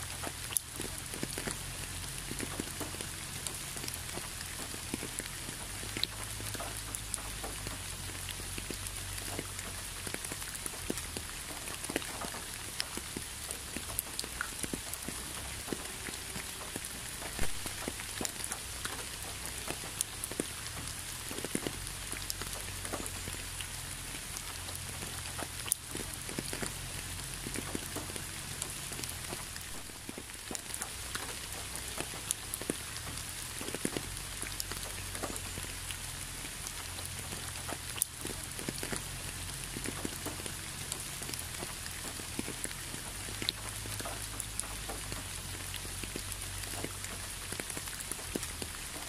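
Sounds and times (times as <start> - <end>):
raindrops ticking on a surface: 0.0 - 49.0
steady rain hiss: 0.0 - 49.0.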